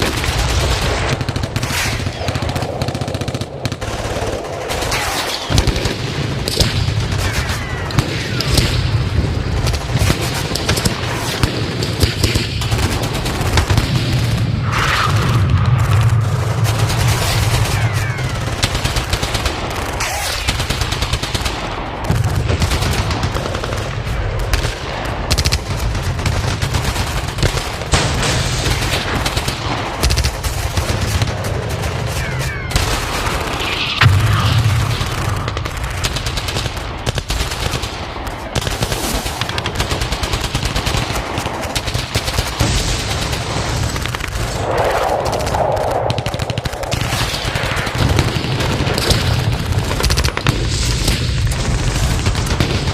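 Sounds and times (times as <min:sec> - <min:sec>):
rapid machine-gun fire: 0:00.0 - 0:44.6, 0:45.2 - 0:52.9.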